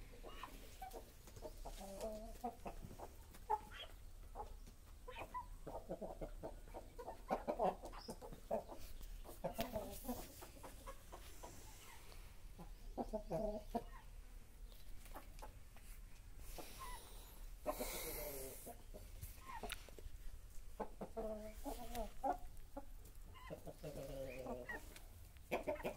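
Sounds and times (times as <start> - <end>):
chickens calling: 0.0 - 25.9.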